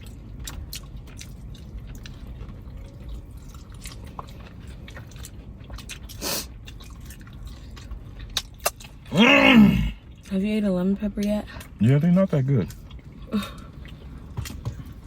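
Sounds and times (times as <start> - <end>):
low steady rumble: 0.0 - 15.0
wet chewing and mouth clicks: 0.0 - 15.0.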